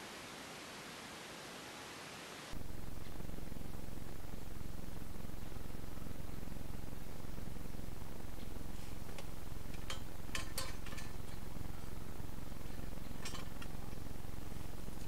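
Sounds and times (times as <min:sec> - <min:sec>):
low background rumble: 0:02.5 - 0:15.0.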